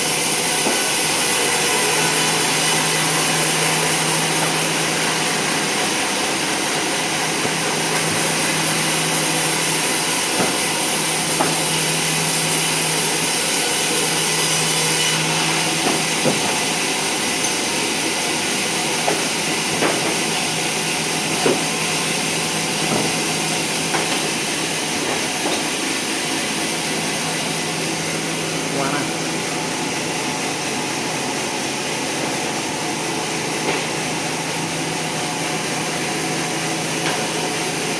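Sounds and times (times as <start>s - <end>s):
sawmill saw cutting log: 0.0s - 37.9s.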